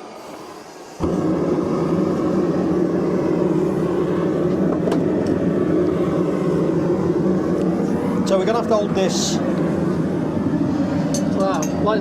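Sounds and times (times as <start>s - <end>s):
forge burner rushing: 0.0s - 12.0s.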